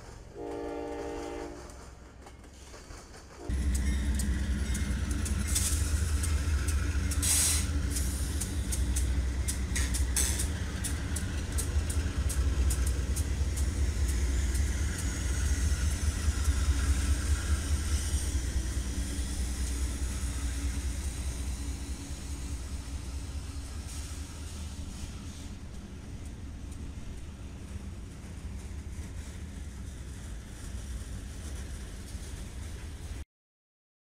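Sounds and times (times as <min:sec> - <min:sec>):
diesel locomotive engines rumbling: 0:00.0 - 0:33.2.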